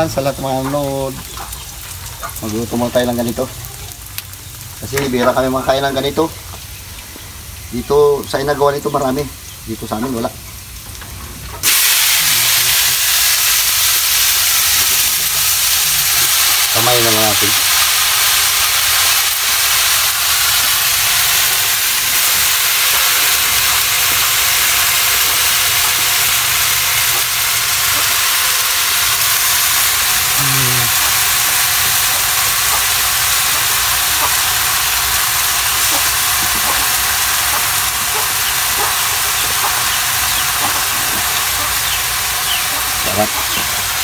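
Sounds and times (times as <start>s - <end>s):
mushrooms sizzling in wok: 0.0s - 44.0s.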